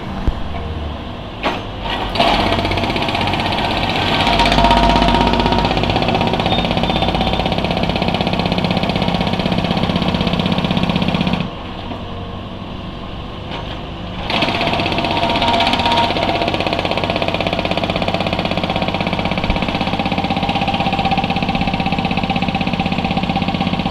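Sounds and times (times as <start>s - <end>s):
engine running: 0.0s - 23.9s
concrete breaker hammering: 1.4s - 11.6s, 13.6s - 23.9s.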